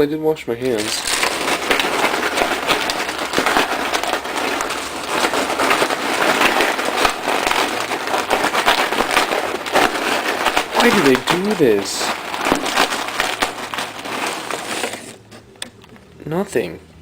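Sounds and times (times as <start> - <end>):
dry cereal rattling: 0.6 - 15.3
plastic bag crinkling: 0.6 - 15.5.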